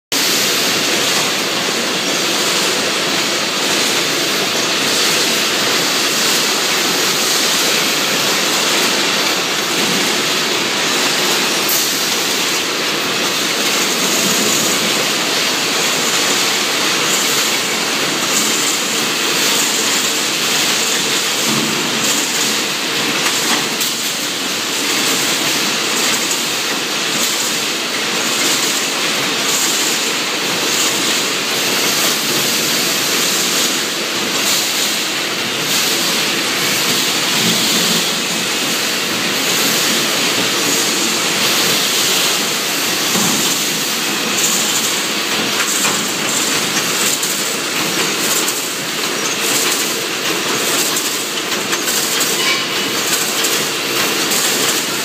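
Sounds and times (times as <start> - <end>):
welding machine running: 0.2 - 55.0.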